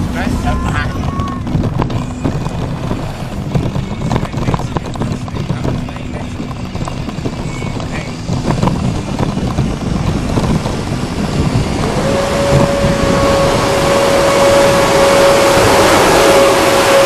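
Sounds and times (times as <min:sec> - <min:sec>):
heavy vehicle noise: 0:00.0 - 0:17.0
steady mechanical whine: 0:00.0 - 0:17.0.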